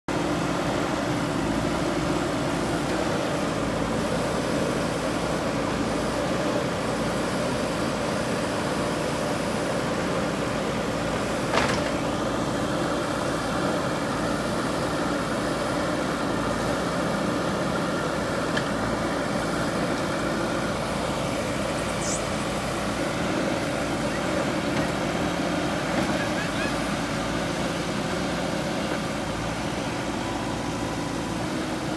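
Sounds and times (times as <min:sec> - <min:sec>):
diesel engine running: 0:00.1 - 0:31.9.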